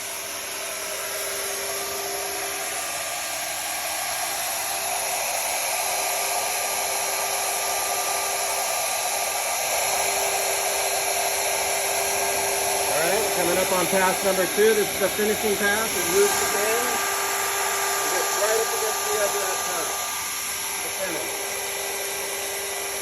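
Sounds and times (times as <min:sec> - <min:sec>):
router cutting wood: 0:00.0 - 0:23.0.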